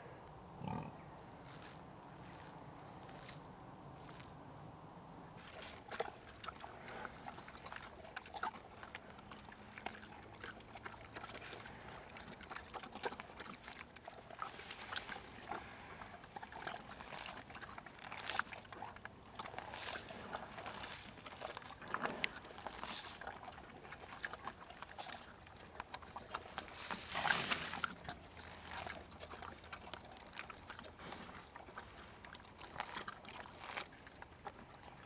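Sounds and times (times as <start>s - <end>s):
pig crunching and snuffling: 0.6s - 4.5s, 5.2s - 35.0s.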